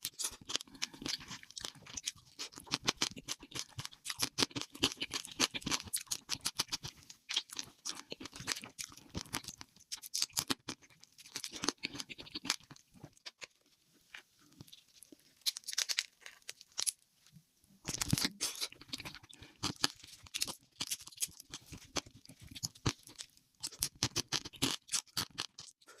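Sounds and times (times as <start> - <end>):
chewing and crunching crisp food: 0.0 - 17.1, 17.8 - 26.0.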